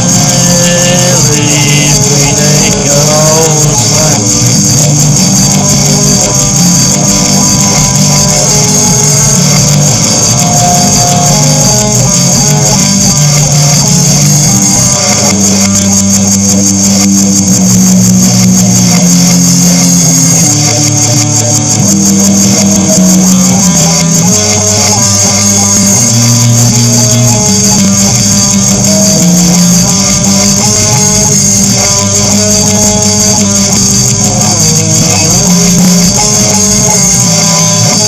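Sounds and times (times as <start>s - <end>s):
bright high hiss: 0.0s - 38.0s
loud dense music: 0.0s - 38.0s.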